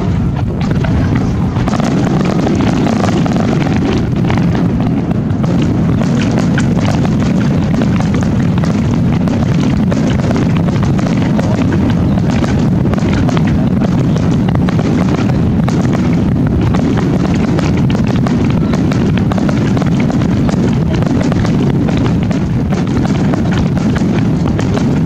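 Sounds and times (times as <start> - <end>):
fireworks booming: 0.0 - 25.0
fireworks crackling: 0.0 - 25.0.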